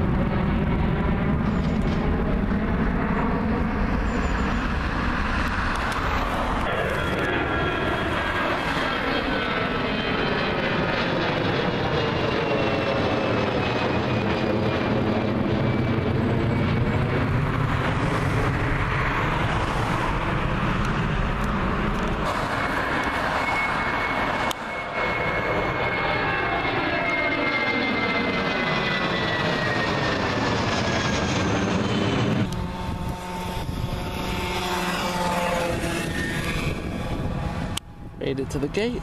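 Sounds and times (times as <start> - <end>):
jet airliner engine whine: 0.0 - 39.0.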